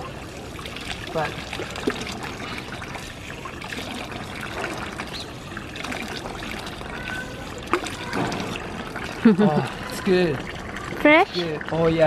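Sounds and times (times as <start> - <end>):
water running from fountain spout: 0.0 - 12.0.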